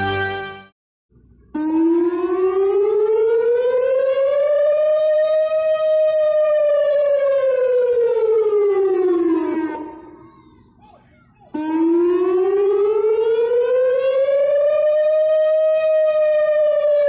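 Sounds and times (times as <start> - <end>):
civil defense siren wail: 1.5 - 10.3, 11.5 - 17.0.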